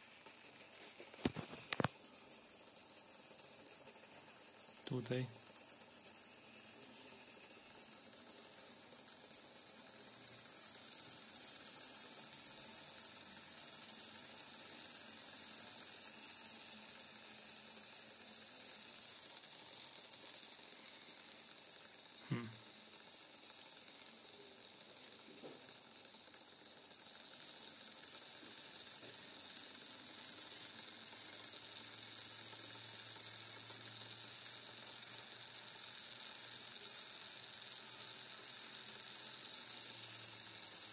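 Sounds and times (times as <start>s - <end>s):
steady high hiss: 0.0s - 40.9s.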